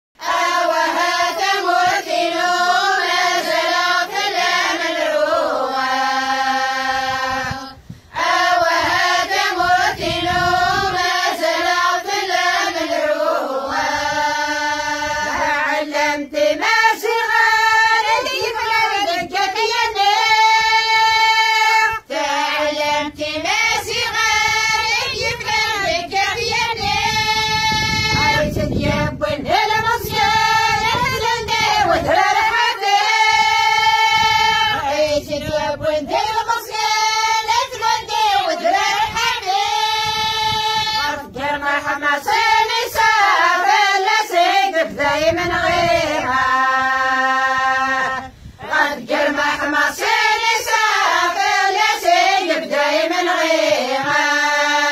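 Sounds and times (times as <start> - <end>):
women singing in unison: 0.2 - 54.9.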